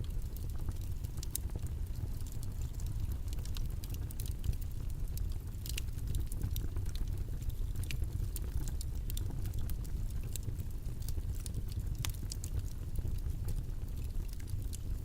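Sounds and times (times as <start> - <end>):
faint clicks and ticks: 0.0 - 15.0.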